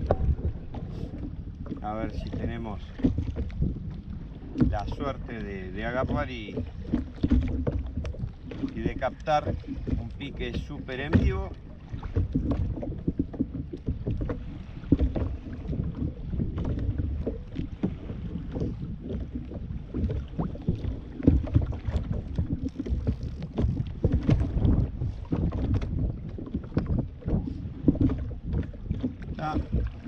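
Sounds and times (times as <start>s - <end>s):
water slapping against hull: 0.0s - 30.0s
wind buffeting microphone: 0.0s - 30.0s.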